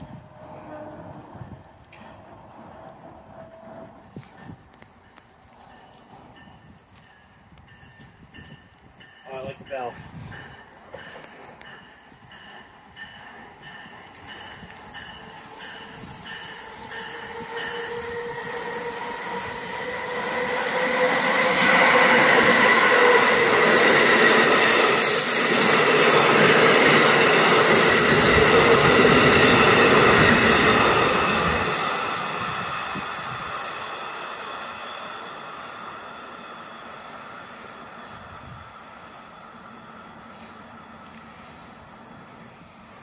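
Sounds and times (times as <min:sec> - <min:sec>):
passing train whine and rail noise: 0:00.0 - 0:43.0.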